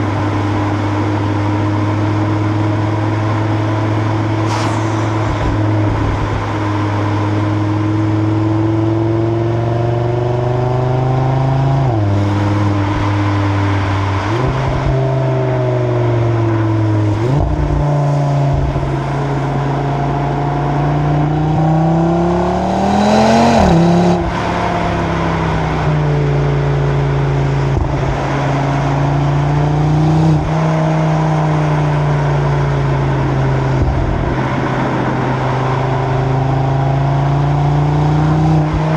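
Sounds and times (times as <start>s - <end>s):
car engine with gear changes: 0.0s - 38.9s.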